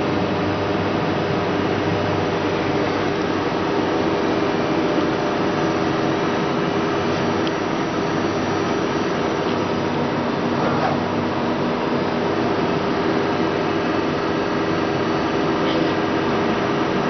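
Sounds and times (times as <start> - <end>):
lathe mechanical hum: 0.0 - 17.0.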